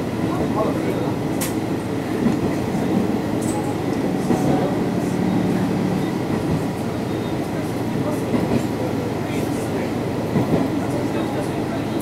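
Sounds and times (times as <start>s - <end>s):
diesel railcar rumbling on rails: 0.0s - 12.0s.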